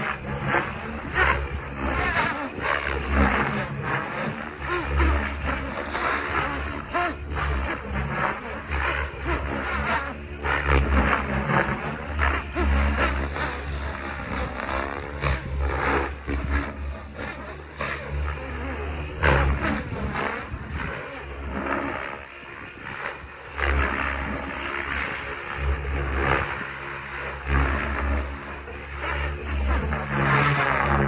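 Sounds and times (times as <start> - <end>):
electric rc helicopter flying: 0.0 - 31.0.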